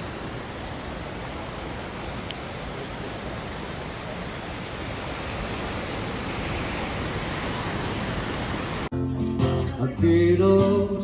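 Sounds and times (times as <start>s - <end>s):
rushing water: 0.0s - 8.9s.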